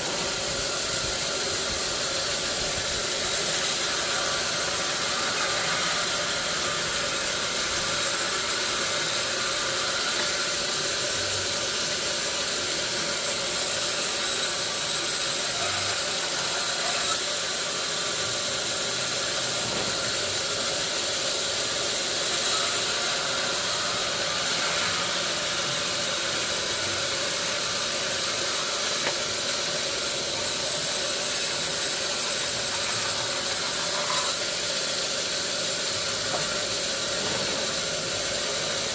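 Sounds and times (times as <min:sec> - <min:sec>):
sawmill machinery hissing and humming: 0:00.0 - 0:38.9.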